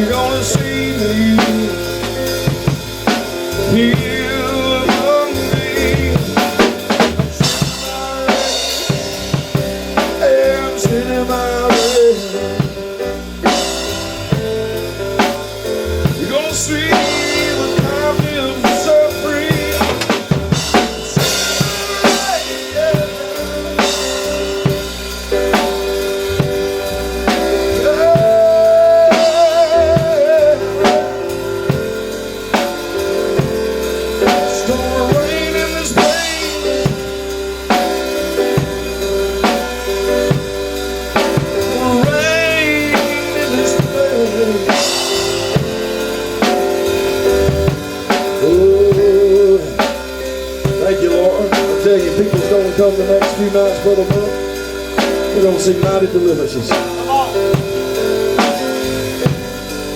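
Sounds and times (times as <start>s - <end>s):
drum kit playing: 0.0s - 59.9s
keyboard chords: 0.0s - 59.9s.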